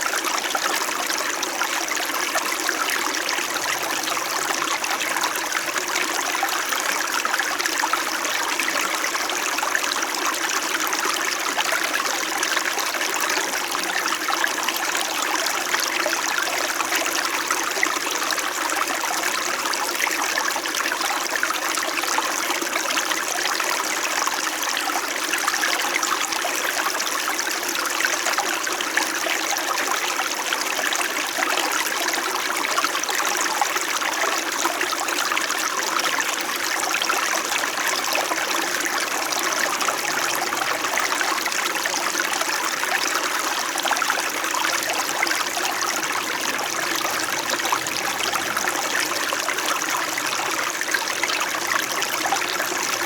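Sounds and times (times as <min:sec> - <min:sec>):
stream babbling over stones: 0:00.0 - 0:53.0.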